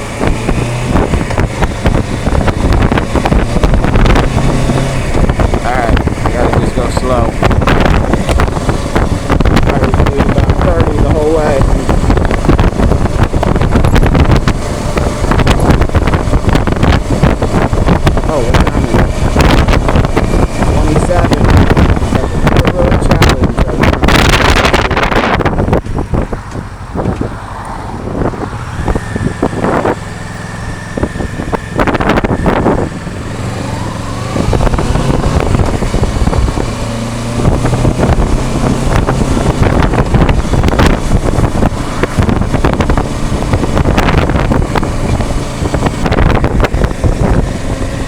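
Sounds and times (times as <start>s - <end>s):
motorcycle engine running: 0.0s - 48.0s
wind buffeting microphone: 0.0s - 48.0s.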